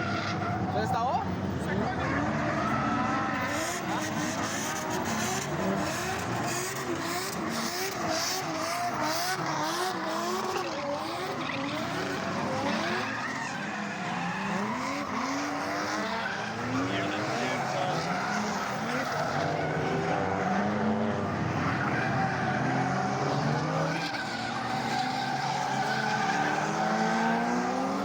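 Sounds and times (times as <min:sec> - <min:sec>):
car engine revving: 0:00.0 - 0:28.0
tyres skidding and squealing: 0:00.0 - 0:28.0.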